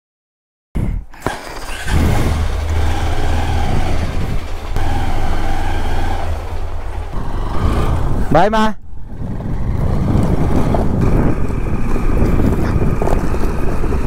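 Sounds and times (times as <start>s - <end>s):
road noise: 1.1s - 14.0s
vehicle engine drone: 1.2s - 14.0s.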